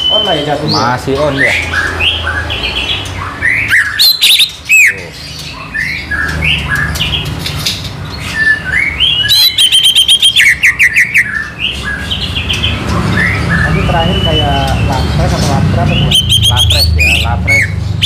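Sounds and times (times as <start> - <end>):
songbird singing loudly: 0.0 - 7.4, 8.0 - 18.0.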